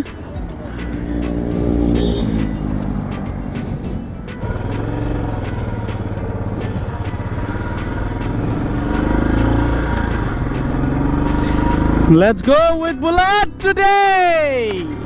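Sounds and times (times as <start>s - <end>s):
motorcycle engine running: 0.0s - 12.3s
background music: 0.0s - 15.0s.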